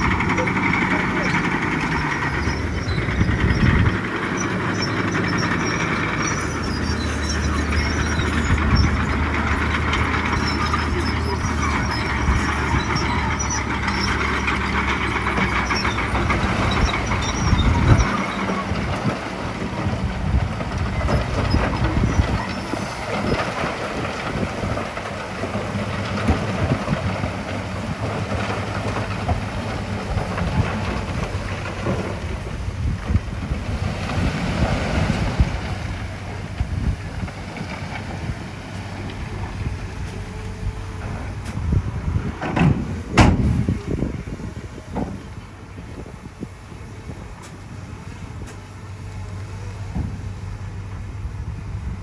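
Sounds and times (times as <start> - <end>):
diesel machinery engine drone: 0.0 - 52.0.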